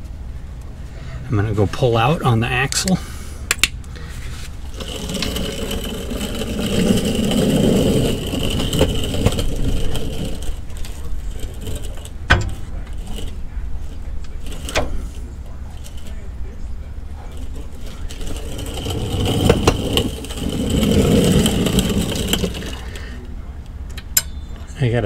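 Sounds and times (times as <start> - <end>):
vehicle engine: 3.0 - 23.6.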